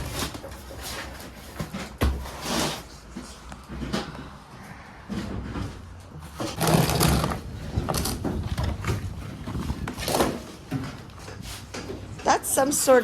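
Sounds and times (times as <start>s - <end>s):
belongings rustling and scraping: 0.0s - 13.0s.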